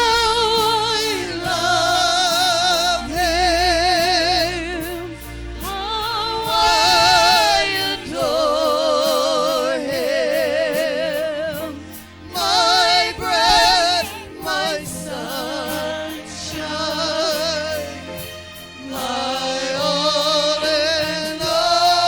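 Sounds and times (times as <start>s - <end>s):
gospel singing with vibrato: 0.0s - 22.0s.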